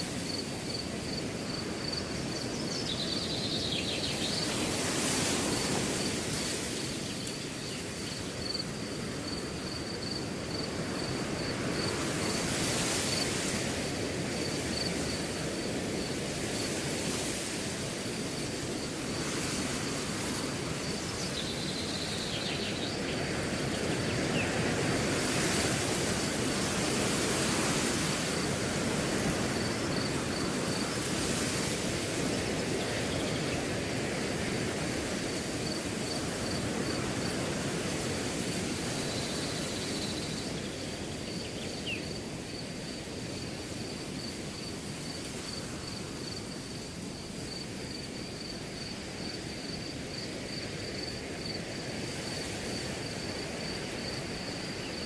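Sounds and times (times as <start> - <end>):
cricket chirping: 0.0 - 55.0
wind through grass: 0.0 - 55.0.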